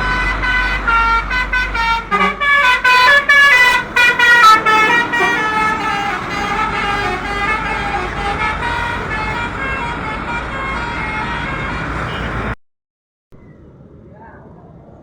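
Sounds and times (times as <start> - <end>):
musical bus air horn: 0.0 - 12.6.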